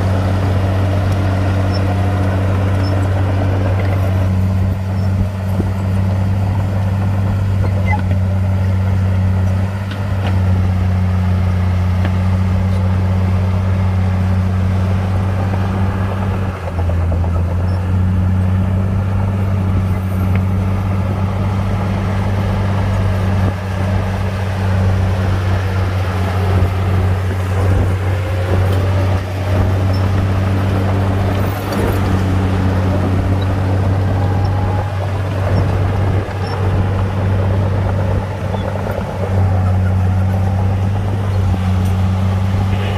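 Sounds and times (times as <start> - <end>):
heavy diesel machinery running: 0.0 - 42.9.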